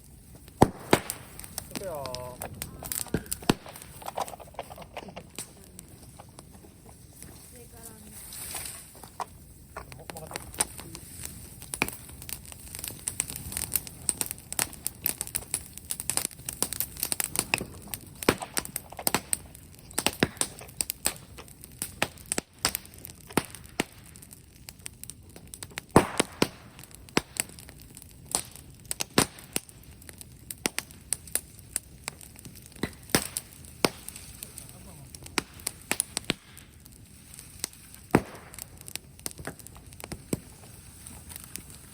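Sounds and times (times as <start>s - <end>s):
bonfire crackling and popping: 0.0s - 41.9s
sharp snaps of fire: 0.0s - 41.9s.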